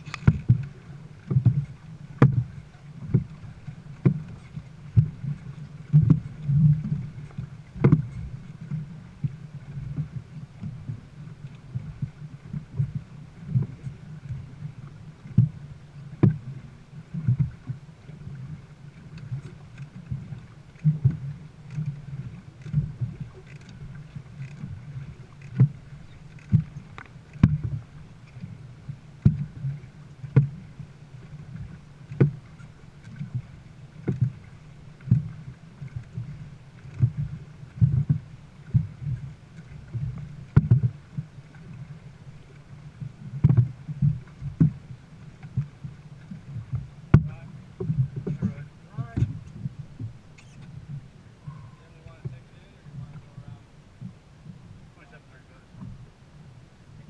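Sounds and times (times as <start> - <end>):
paddles knocking and splashing: 0.0 - 56.2
low rumble of water: 0.0 - 57.0.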